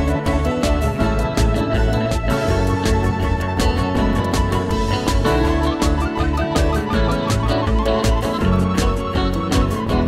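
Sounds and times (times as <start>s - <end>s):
music with beat and plucked strings: 0.0s - 10.0s.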